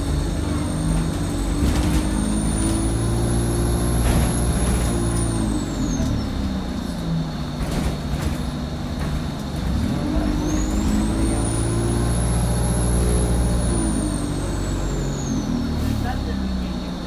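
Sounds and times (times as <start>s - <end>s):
bus diesel engine: 0.0s - 17.0s.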